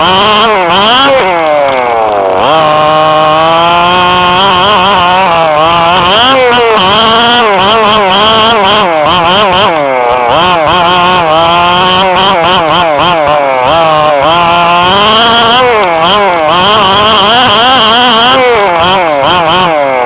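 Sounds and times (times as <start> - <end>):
toy car motor revving: 0.0 - 20.0.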